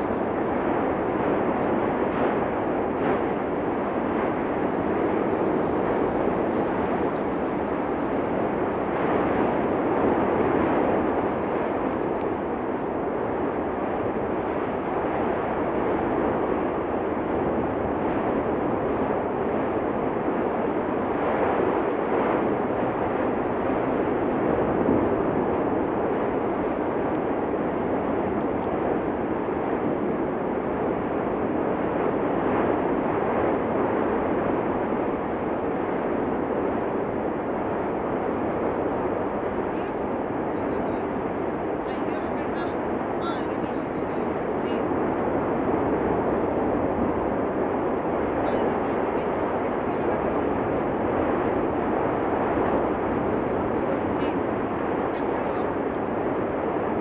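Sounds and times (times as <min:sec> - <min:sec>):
volcano roaring: 0:00.0 - 0:57.0.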